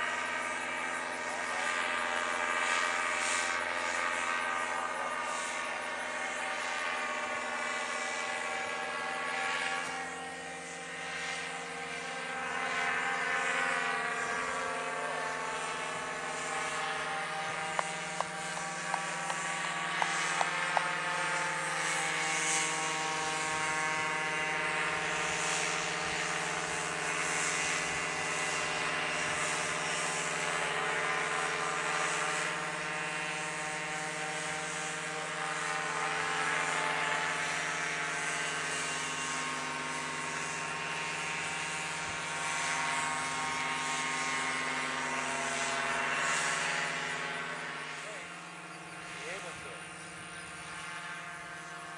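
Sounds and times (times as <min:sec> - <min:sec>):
paramotor engine and propeller: 0:00.0 - 0:51.9.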